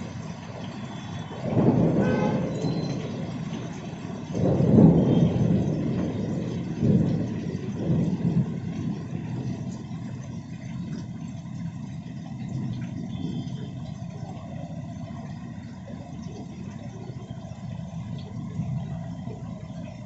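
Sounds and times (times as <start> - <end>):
cars passing on wet road: 0.0 - 20.0
heavy rain pouring on street: 0.0 - 20.0.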